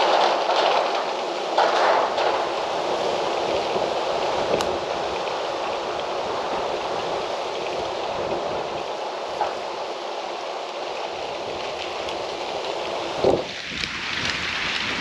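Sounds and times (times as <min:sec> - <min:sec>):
wind blowing: 0:02.2 - 0:15.0.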